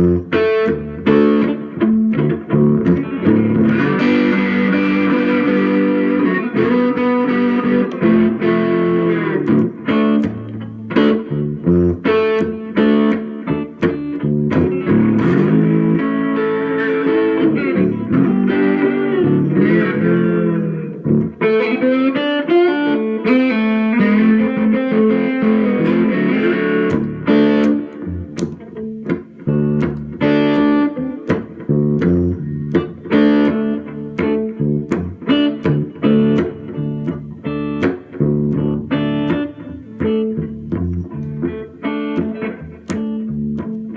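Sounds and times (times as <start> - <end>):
slide guitar: 0.0 - 43.9.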